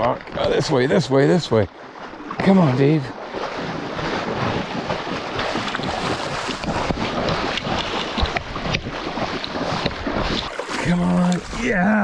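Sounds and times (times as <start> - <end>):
stream water rushing and splashing: 0.0 - 12.0.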